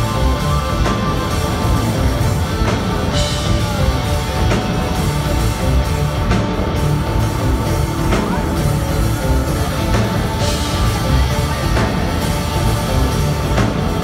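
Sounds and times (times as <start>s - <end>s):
electric guitar: 0.0s - 14.0s
live rock band playing: 0.0s - 14.0s.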